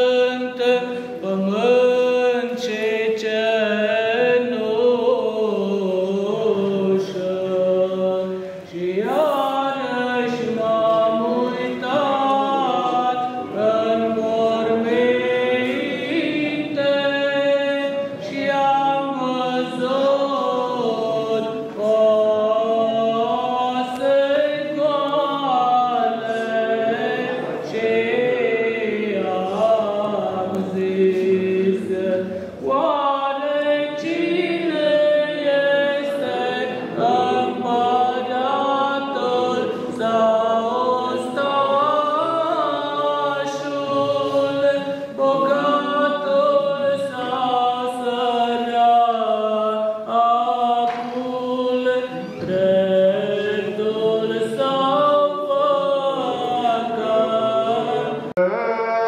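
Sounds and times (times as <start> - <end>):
choir chanting unaccompanied: 0.0 - 59.0.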